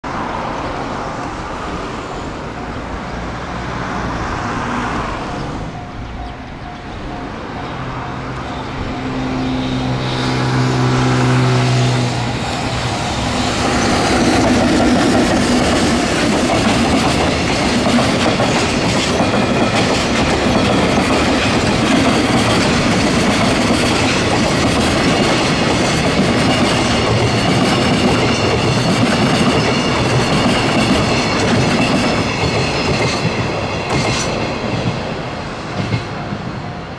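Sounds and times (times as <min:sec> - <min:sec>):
locomotive hum: 0:00.1 - 0:36.9.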